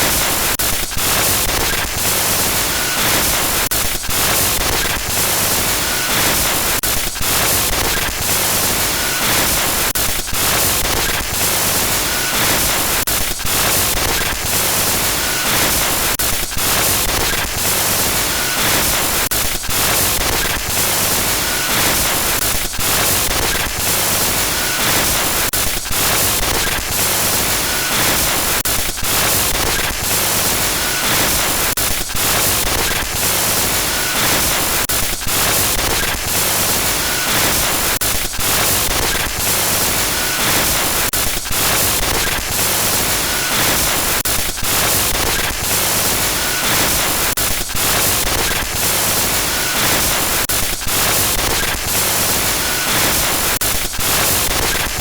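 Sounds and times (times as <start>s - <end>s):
harsh glitch static: 0.1s - 55.0s.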